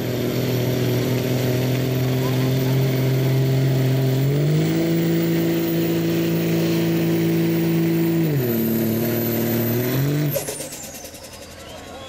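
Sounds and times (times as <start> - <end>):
diesel pickup engine under load: 0.0 - 12.0.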